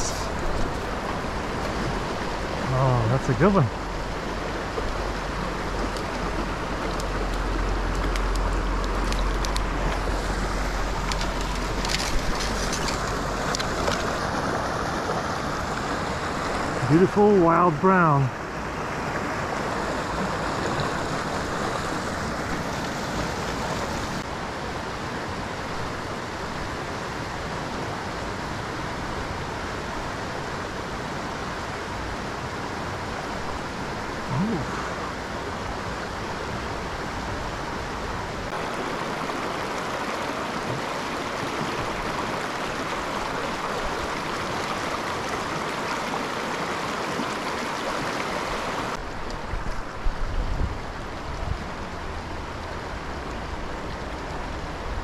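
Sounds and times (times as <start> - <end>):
creek running over rocks: 0.0 - 55.0.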